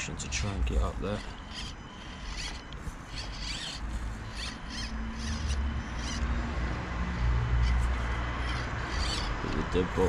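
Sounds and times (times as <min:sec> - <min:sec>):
small electric motor whining: 0:00.6 - 0:06.5, 0:07.2 - 0:09.7.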